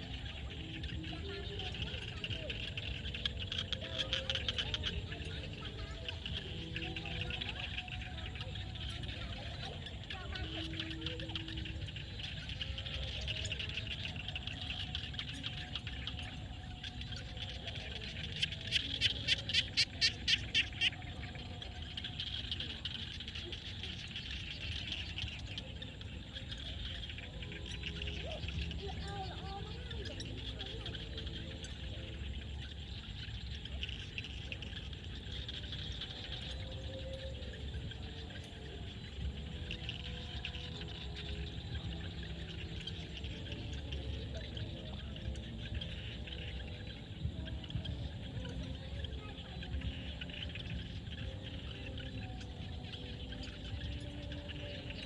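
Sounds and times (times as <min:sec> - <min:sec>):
frogs calling: 0:00.0 - 0:55.0
insects chirping: 0:00.0 - 0:55.0.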